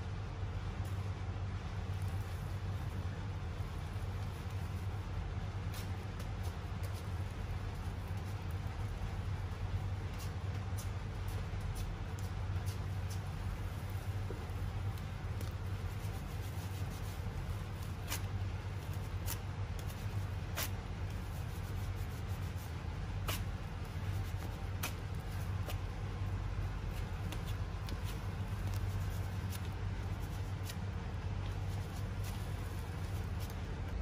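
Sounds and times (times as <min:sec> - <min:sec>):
low room hum: 0:00.0 - 0:34.0
waxing strips clicking and rustling: 0:01.8 - 0:34.0.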